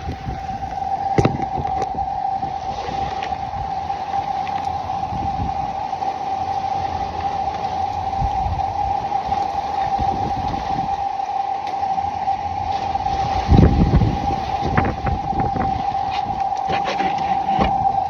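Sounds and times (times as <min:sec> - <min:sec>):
eerie howling tone: 0:00.0 - 0:18.0
wind gusting on microphone: 0:00.0 - 0:18.0.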